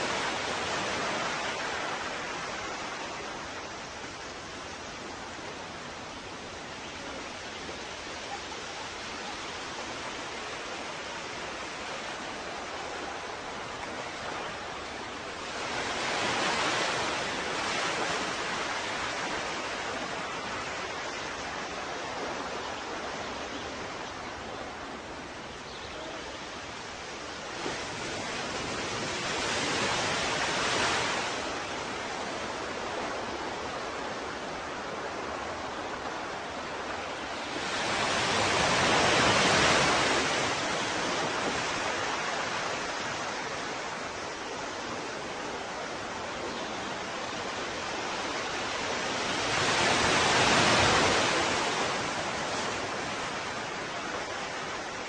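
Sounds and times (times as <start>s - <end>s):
surf washing: 0.0s - 55.0s
waves breaking: 0.0s - 55.0s.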